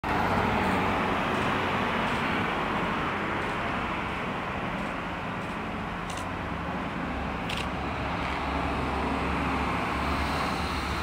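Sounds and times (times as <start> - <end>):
passing vehicles: 0.0 - 11.0.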